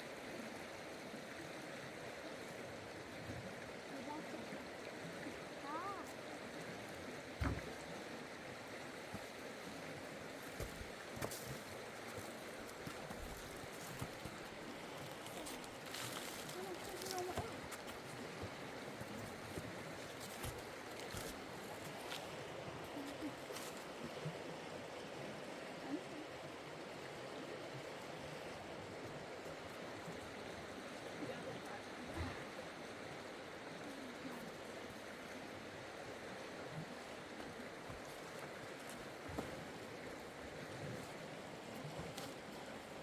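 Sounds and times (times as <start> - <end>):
rushing water: 0.0 - 43.0.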